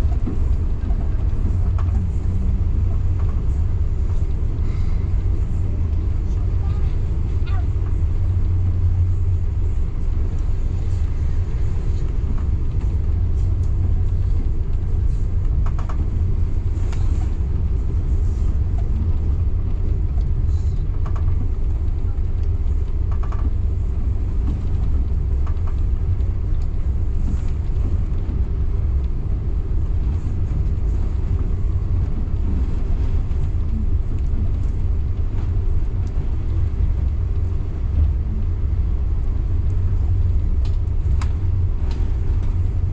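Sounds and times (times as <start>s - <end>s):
passenger train rumbling: 0.0s - 42.9s.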